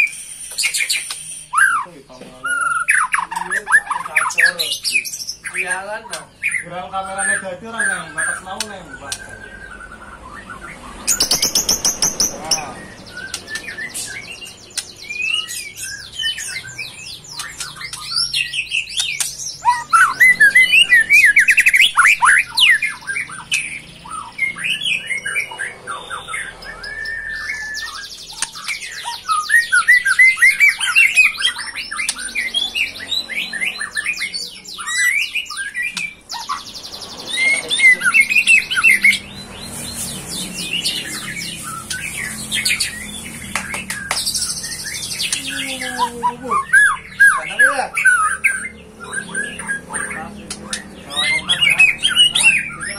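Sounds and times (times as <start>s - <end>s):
songbird singing trills and whistles: 0.0s - 52.9s.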